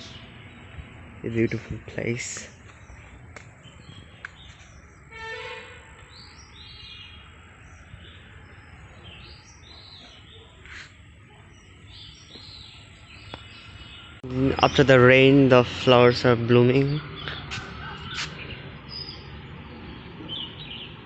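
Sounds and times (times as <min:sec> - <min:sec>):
birds chirping and calling: 0:00.0 - 0:21.0
low outdoor background noise: 0:00.0 - 0:21.0.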